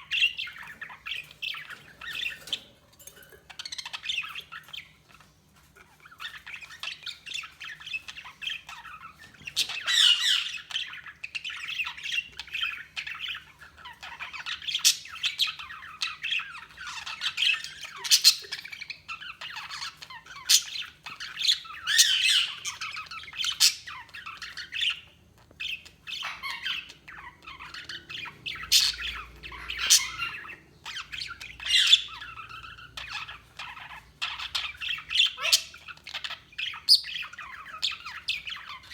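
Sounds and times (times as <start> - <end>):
budgerigars chattering and warbling: 0.0 - 38.9
budgerigar squawks and chirps: 3.6 - 38.9.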